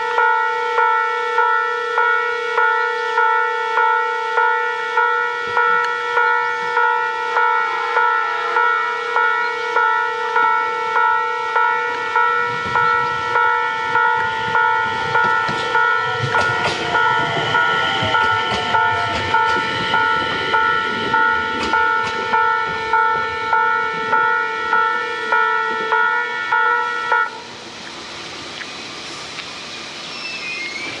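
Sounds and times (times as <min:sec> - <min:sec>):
level-crossing warning bell: 0:00.0 - 0:27.5
passing train rumble: 0:00.0 - 0:31.0.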